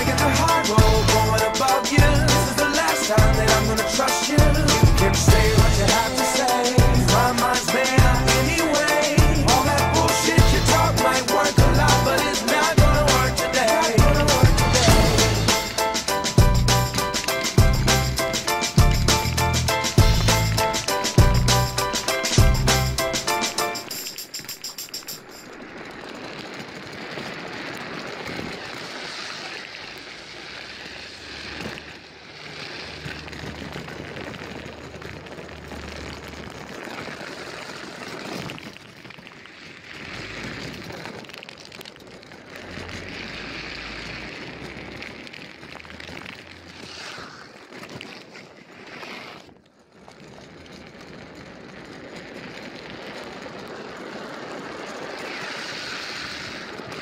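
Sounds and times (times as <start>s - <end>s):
hard wheels rolling on asphalt: 0.0s - 57.0s.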